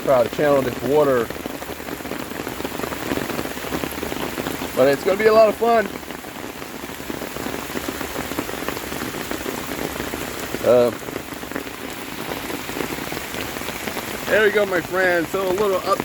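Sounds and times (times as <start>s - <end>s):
heavy rain pattering: 0.0s - 16.0s.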